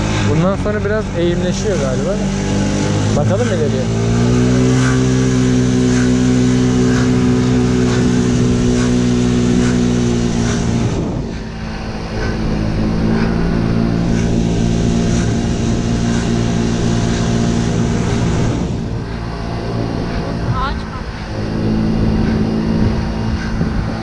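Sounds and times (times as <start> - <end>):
motor scooter engine running: 0.0 - 24.0.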